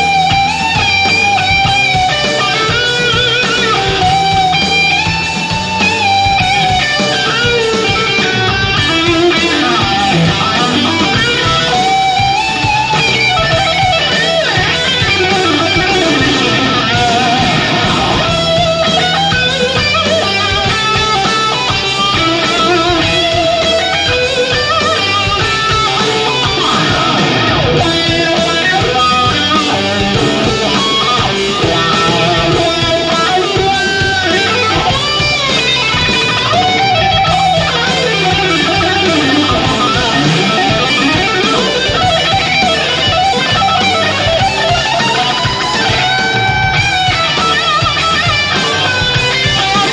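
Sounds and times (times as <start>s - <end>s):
electric guitar lead: 0.0s - 49.9s
low rock backing: 0.0s - 49.9s.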